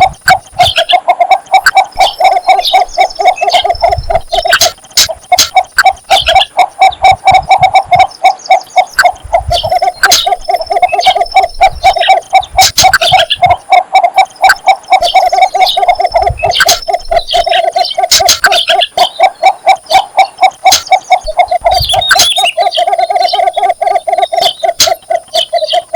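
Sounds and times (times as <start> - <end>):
bird clucking call: 0.0 - 25.9
birds chirping: 0.0 - 25.9.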